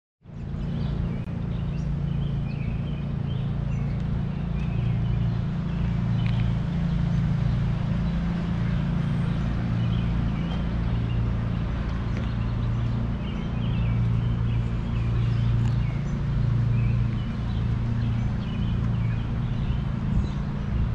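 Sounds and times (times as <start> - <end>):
birds chirping: 0.3 - 20.9
steady low rumble: 0.3 - 20.9.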